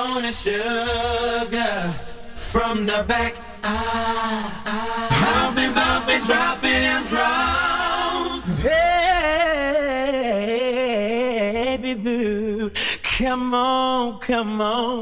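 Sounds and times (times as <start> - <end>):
man singing a cappella: 0.0 - 15.0.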